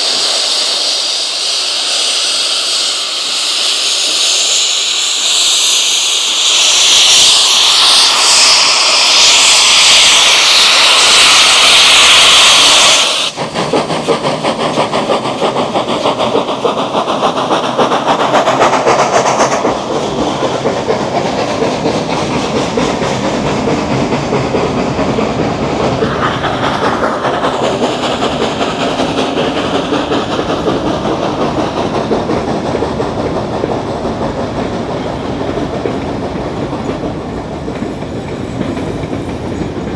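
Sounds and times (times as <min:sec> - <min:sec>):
steam hissing from locomotive: 0:00.0 - 0:39.9
train wheels clicking rhythmically: 0:00.0 - 0:39.9.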